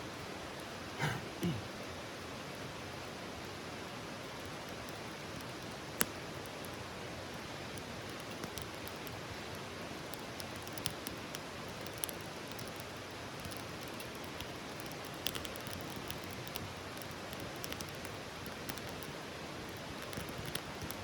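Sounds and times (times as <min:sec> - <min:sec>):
campfire hissing: 0:00.0 - 0:21.0
fire crackles and pops: 0:02.3 - 0:21.0.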